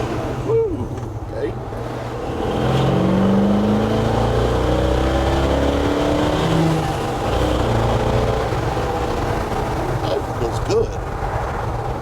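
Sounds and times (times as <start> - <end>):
car engine accelerating: 0.0 - 10.4.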